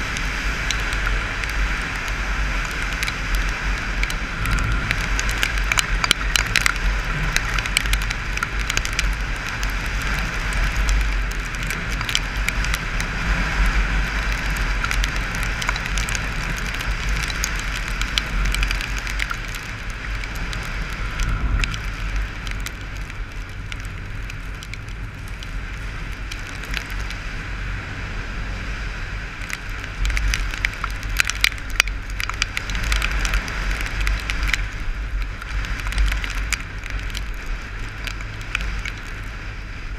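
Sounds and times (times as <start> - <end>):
raindrops ticking on camera case: 0.0 - 27.5, 29.1 - 39.9
wind rumbling over camera: 0.0 - 39.9.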